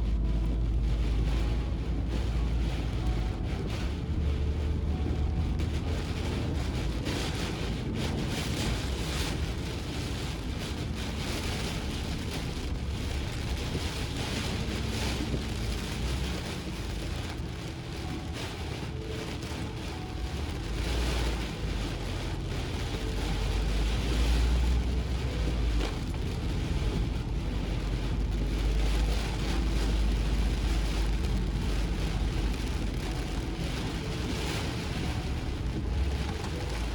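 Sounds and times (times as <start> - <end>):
heavy rain: 0.0 - 36.9
low rumble: 0.0 - 36.9.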